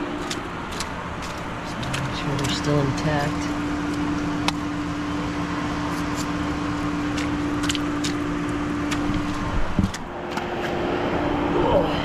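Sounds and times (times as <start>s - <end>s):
engine and road hum: 0.0s - 12.0s.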